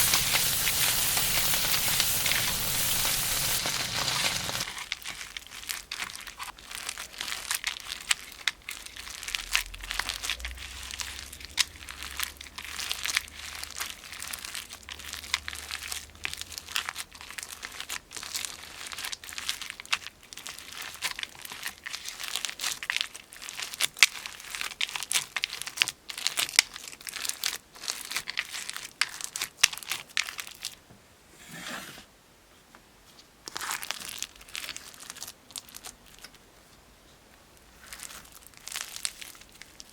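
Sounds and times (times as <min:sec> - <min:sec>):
crunchy slime crackling: 0:00.0 - 0:30.7, 0:33.5 - 0:36.3, 0:37.7 - 0:39.9.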